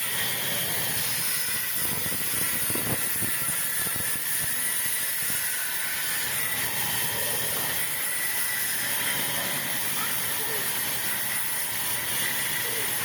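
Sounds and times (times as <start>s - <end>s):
saw cutting through wood: 0.0s - 13.0s.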